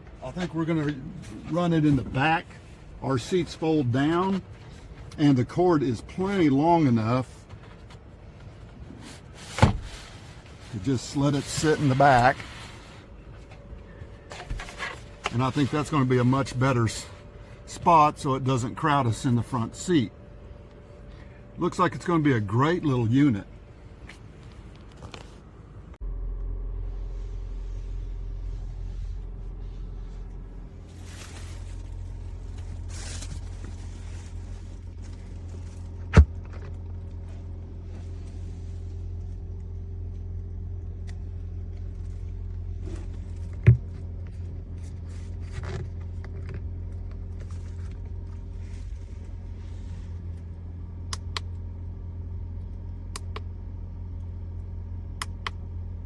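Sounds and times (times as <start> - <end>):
car engine rumble inside cabin: 0.0 - 56.0.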